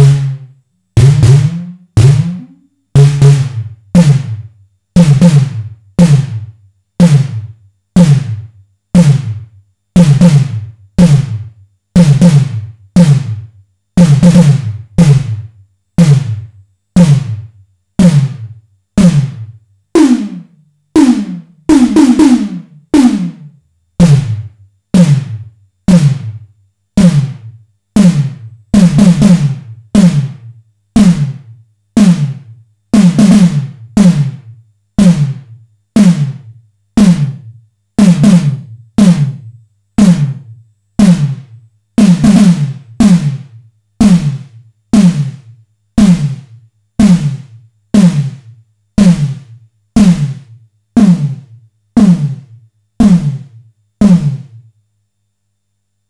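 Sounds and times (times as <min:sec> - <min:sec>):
electronic snare hits: 0:00.0 - 0:26.4, 0:27.0 - 0:54.7.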